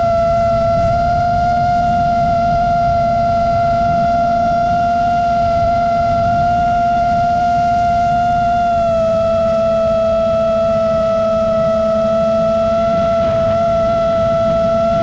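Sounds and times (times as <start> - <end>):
drone propellers whining: 0.0 - 15.0
wind rumble: 0.0 - 15.0.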